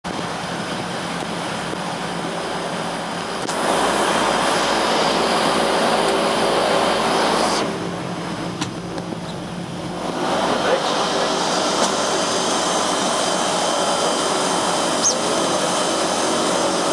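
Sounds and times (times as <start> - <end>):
turboprop engine and propeller drone: 0.0 - 16.9.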